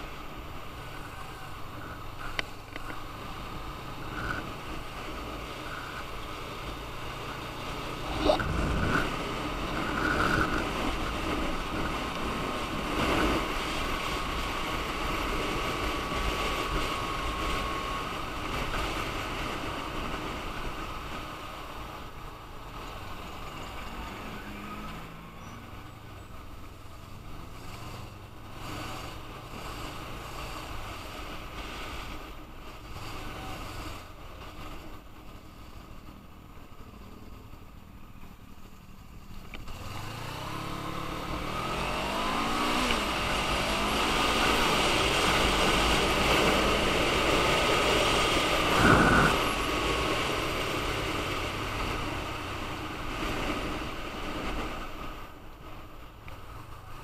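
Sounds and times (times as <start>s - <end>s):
motorcycle engine: 0.0s - 57.0s
rushing wind: 0.0s - 57.0s.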